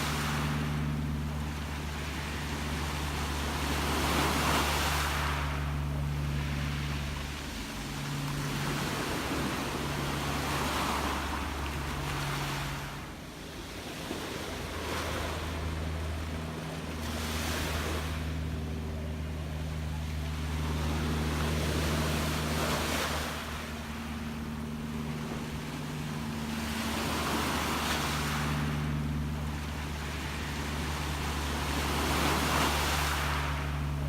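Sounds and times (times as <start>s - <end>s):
low rumble: 0.0s - 34.0s
sea waves washing in: 0.0s - 34.0s.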